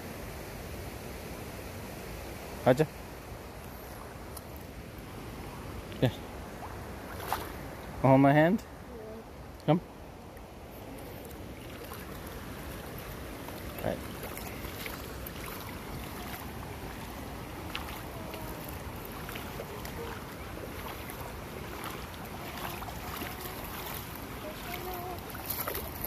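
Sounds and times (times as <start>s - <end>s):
creek water rippling over rocks: 0.4s - 26.0s.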